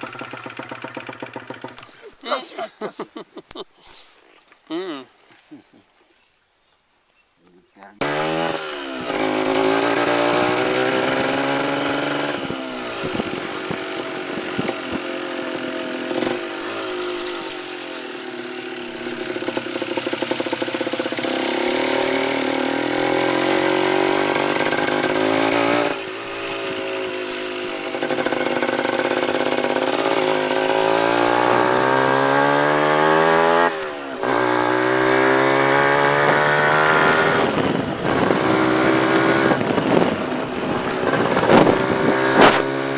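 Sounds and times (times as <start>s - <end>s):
motorbike engine accelerating: 0.0s - 2.4s, 8.0s - 42.9s.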